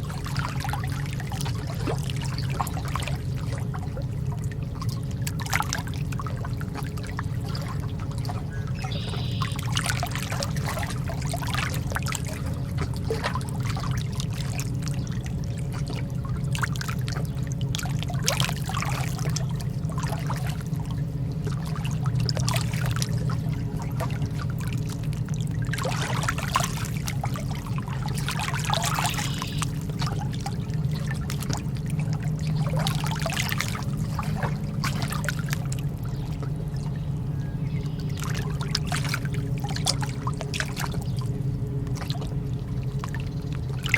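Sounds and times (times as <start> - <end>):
small splashes: 0.0 - 37.3, 37.9 - 43.9
lake water lapping: 0.0 - 43.9.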